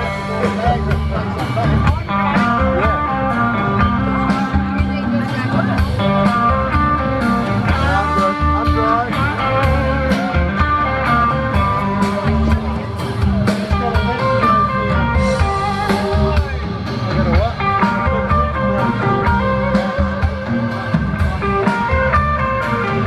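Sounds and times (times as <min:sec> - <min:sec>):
bass guitar: 0:00.0 - 0:23.0
electric guitar lead: 0:00.0 - 0:23.0
steady drum beat: 0:00.0 - 0:23.0.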